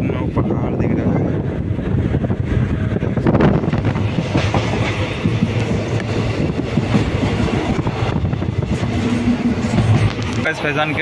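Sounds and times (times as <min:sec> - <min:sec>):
train rumbling from inside carriage: 0:00.0 - 0:11.0.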